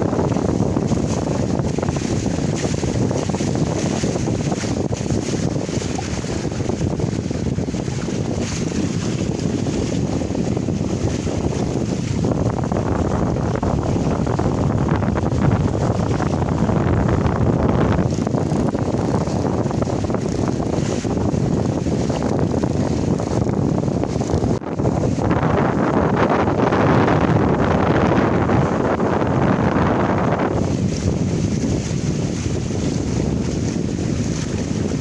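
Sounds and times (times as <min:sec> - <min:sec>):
water rushing along hulls: 0:00.0 - 0:35.0
wind buffeting microphone: 0:00.0 - 0:35.0.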